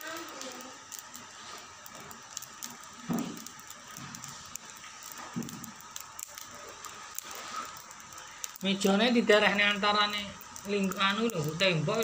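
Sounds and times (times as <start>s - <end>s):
firewood crackling and popping: 0.0s - 12.0s.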